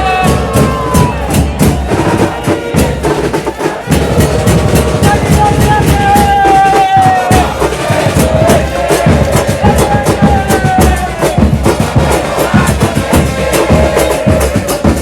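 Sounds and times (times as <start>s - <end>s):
bass drums and percussion beating: 0.0s - 15.0s.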